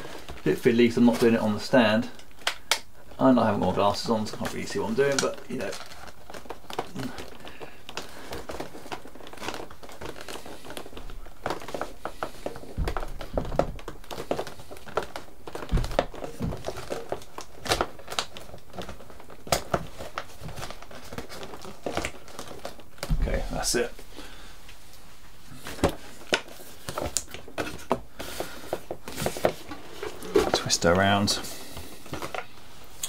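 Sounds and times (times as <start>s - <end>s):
foam rustling and creaking: 0.0s - 33.0s.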